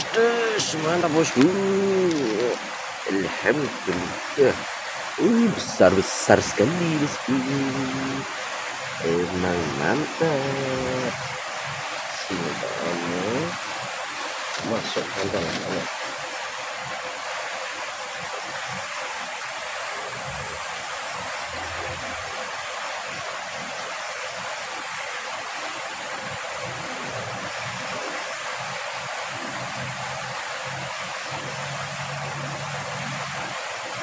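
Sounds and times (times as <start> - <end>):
flowing river water: 0.0 - 34.0.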